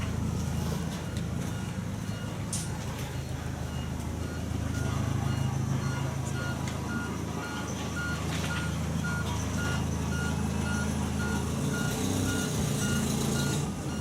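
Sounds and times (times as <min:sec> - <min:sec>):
reversing alarm beeping: 0:00.0 - 0:14.0
tractor engines running: 0:00.0 - 0:14.0.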